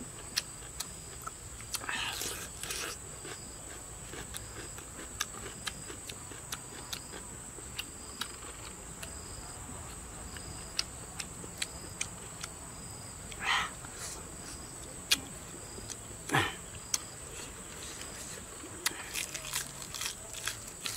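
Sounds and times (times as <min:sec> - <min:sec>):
insects droning: 0:00.0 - 0:20.9.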